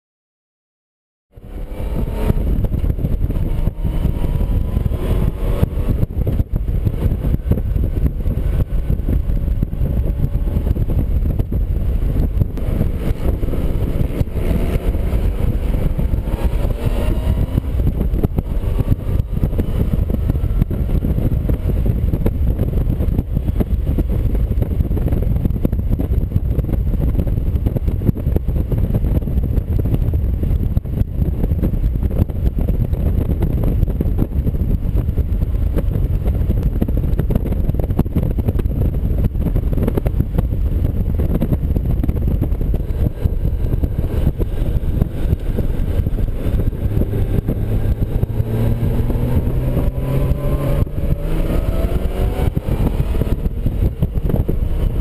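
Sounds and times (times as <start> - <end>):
motorcycle engine accelerating: 1.3 - 55.0
wind and road noise: 1.3 - 55.0.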